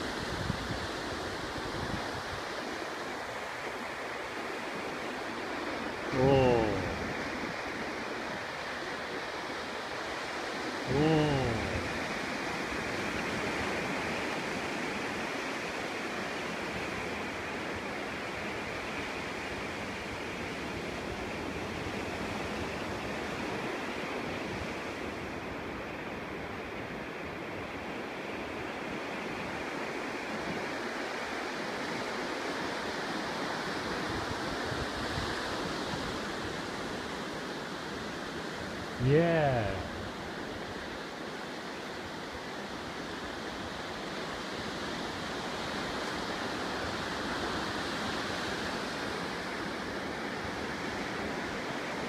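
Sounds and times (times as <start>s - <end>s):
ocean surf on sandy beach: 0.0s - 52.0s.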